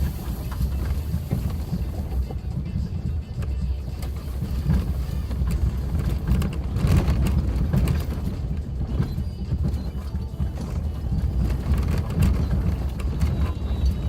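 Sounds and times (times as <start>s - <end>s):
knocks and rattles over bumps: 0.0s - 14.0s
vehicle engine and road rumble: 0.0s - 14.0s.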